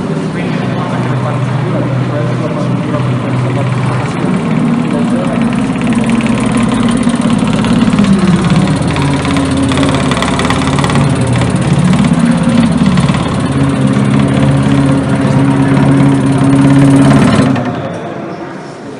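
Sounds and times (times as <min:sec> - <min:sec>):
noise intoners buzzing rasp: 0:00.0 - 0:18.1
electric bass sliding tones: 0:00.0 - 0:18.4.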